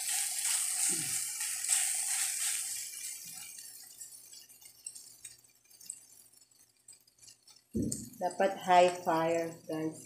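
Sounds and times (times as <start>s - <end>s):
wooden spatula scraping a pan: 0.0s - 9.8s
meat sizzling in a hot pan: 0.0s - 10.0s.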